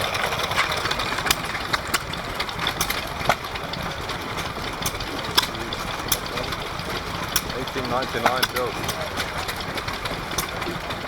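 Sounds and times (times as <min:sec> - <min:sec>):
stationary engines running: 0:00.0 - 0:11.0.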